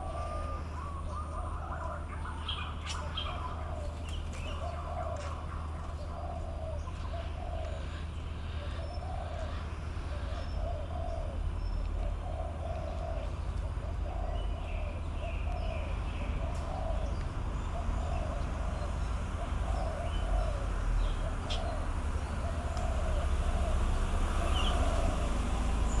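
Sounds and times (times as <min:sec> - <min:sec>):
bird low hooting calls: 0:00.0 - 0:26.0
traffic rumble: 0:00.0 - 0:26.0.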